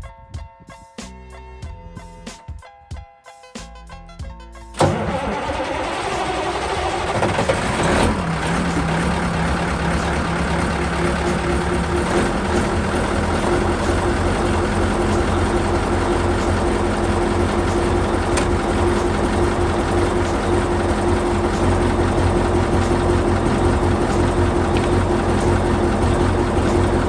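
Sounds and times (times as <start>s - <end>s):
diesel truck engine starting and idling: 4.8s - 27.0s.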